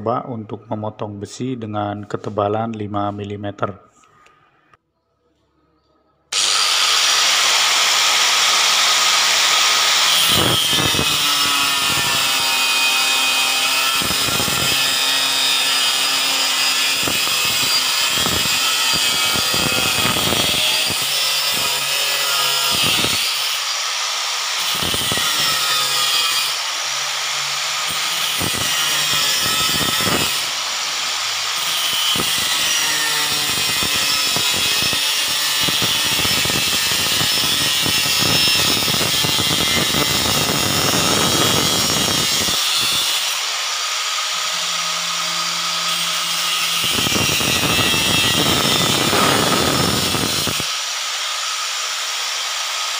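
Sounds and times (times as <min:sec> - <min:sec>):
angle grinder cutting metal: 0:06.3 - 0:52.9.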